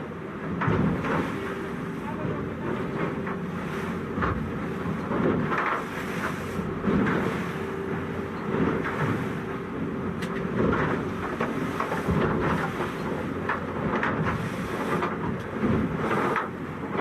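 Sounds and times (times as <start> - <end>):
boat engine hum: 0.0 - 17.0
water rushing against hull: 0.0 - 17.0
wind buffeting microphone: 0.5 - 17.0.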